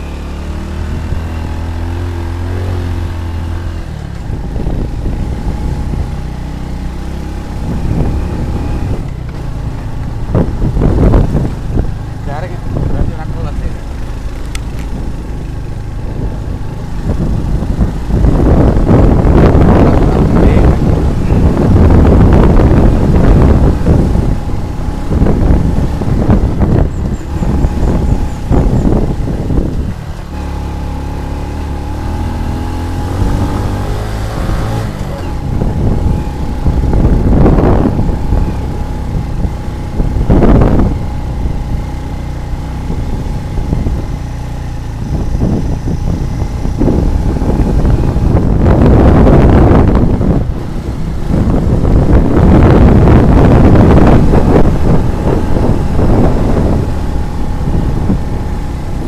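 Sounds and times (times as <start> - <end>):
motor scooter engine running: 0.0 - 59.0
wind buffeting microphone: 0.0 - 59.0.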